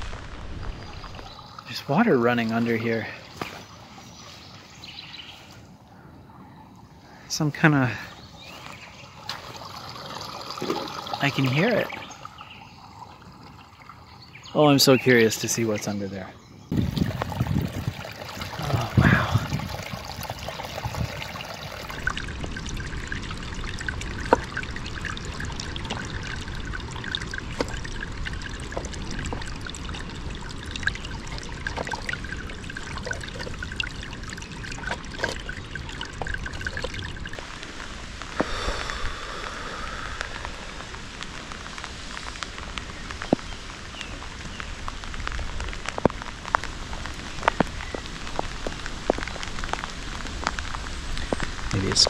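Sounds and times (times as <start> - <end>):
rain falling: 0.0 - 4.8, 7.3 - 52.0
sharp drips and ticks: 0.0 - 5.6, 7.0 - 52.0
water trickling: 0.0 - 5.7, 7.1 - 52.0.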